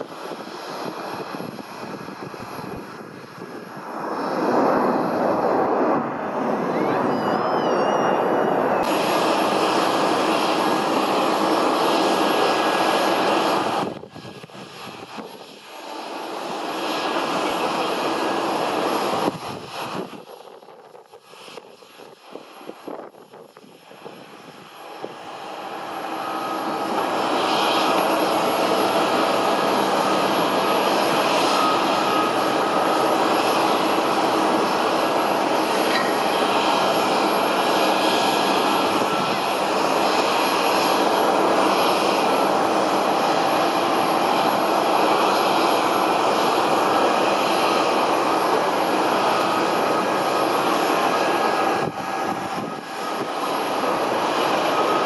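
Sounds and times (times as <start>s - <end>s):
airliner engine roar: 0.0s - 55.0s.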